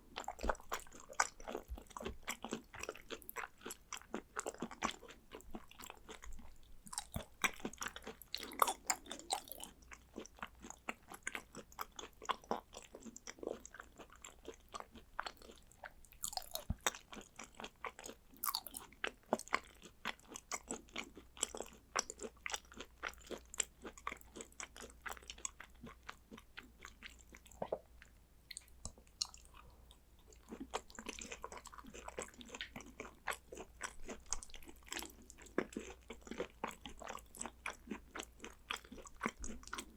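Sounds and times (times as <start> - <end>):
chewing clicks and smacks: 0.2 - 39.9.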